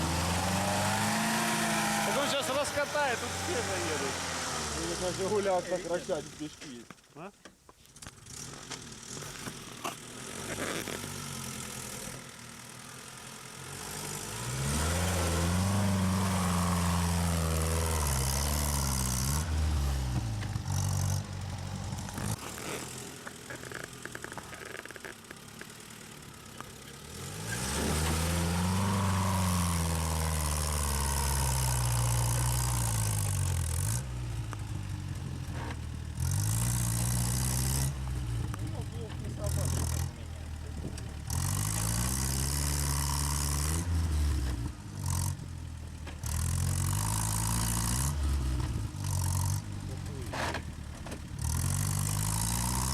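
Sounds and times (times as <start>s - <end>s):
off-road vehicle engine revving: 0.0s - 6.9s, 8.0s - 52.9s.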